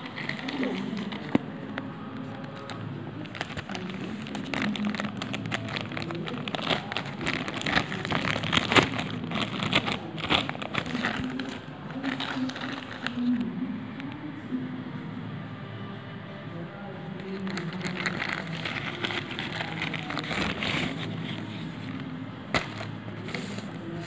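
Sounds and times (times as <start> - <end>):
plastic pouch crinkling: 0.0 - 13.3, 17.2 - 23.7.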